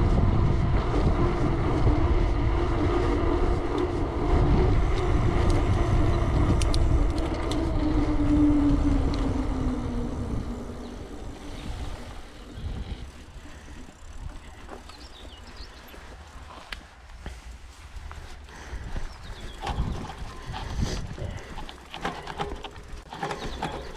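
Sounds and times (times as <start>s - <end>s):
motor engine humming: 0.0s - 16.7s, 18.1s - 23.9s
wind rumble on microphone: 0.0s - 16.8s, 17.6s - 23.9s.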